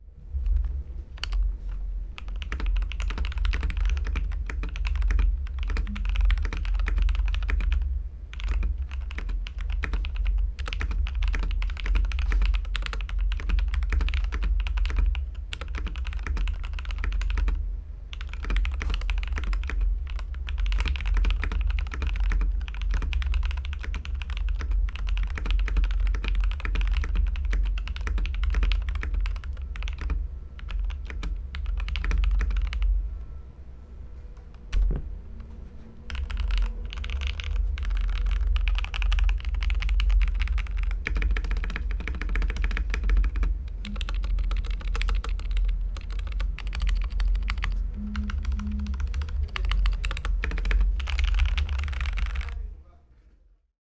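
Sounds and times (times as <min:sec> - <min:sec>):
mechanical keyboard typing: 0:00.4 - 0:33.0, 0:34.4 - 0:52.6.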